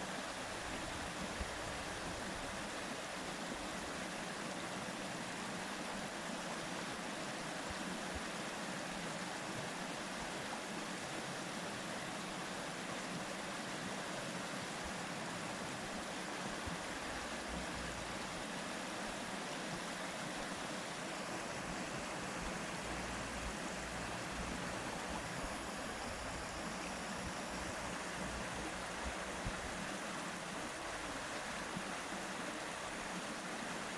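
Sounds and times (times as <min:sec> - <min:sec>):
water rushing: 0:00.0 - 0:33.9.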